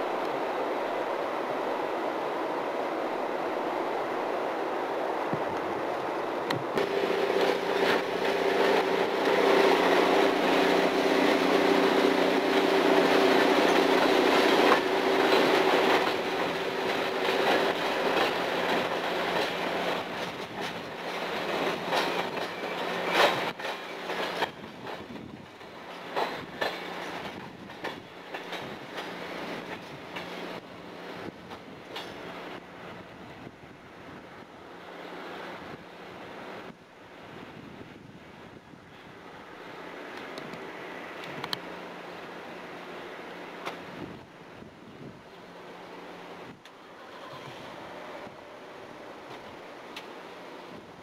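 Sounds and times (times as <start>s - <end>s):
diesel train passing: 0.0s - 51.0s
rumble and clatter of train cars: 5.2s - 51.0s.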